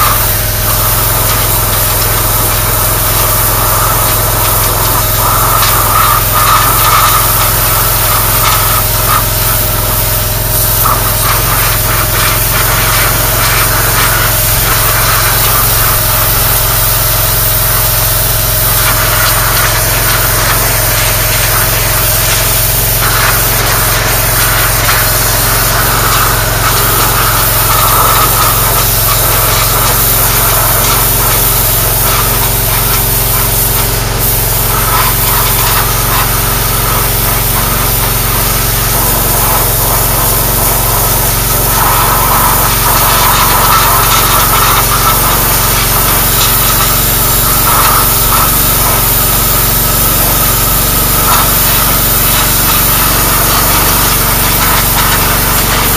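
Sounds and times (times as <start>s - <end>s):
pressure washer jet hissing on metal: 0.0s - 55.9s.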